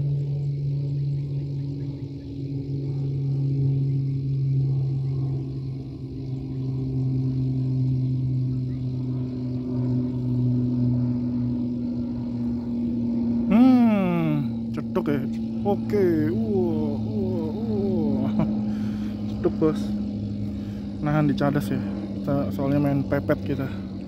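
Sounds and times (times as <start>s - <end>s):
low motor hum: 0.0s - 24.0s.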